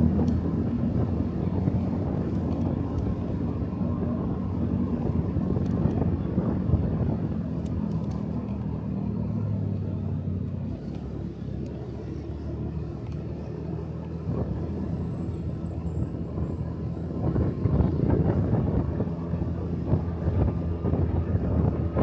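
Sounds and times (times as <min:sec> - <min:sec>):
road and wind rumble: 0:00.0 - 0:22.0.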